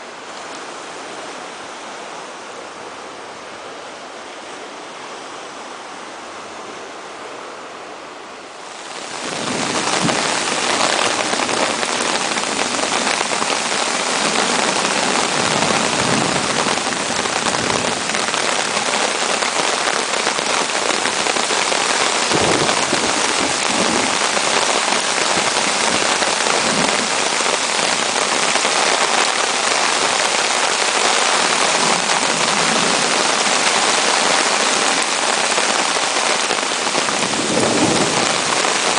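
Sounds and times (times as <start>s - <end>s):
heavy rain pouring: 0.0s - 38.9s
surf washing: 0.0s - 38.9s.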